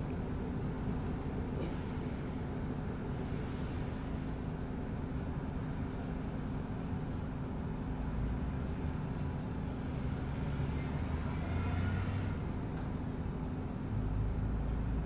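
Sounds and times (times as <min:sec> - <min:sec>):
bus diesel engine idling: 0:00.0 - 0:15.0
passing vehicles rumble: 0:00.1 - 0:15.0.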